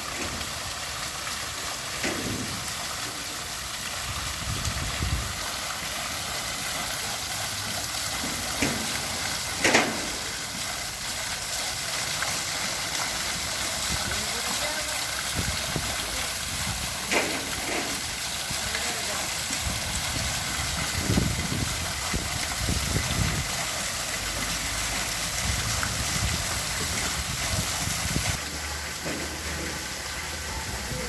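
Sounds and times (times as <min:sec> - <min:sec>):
waterfall pouring: 0:00.0 - 0:31.0.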